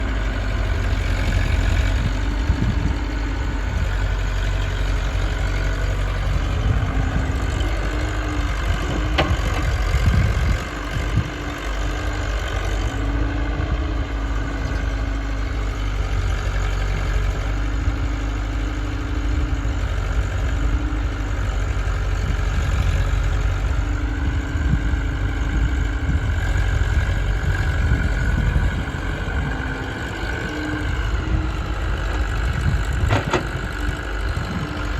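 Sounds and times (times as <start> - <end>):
diesel engines running: 0.0 - 34.9
pitched hum: 0.0 - 34.9.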